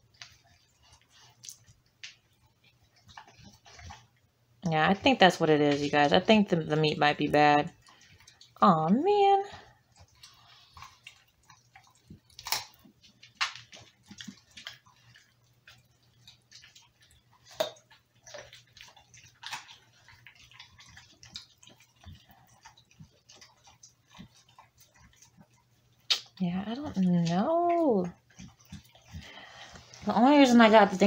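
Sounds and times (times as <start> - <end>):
dog licking meat: 0.0 - 31.0.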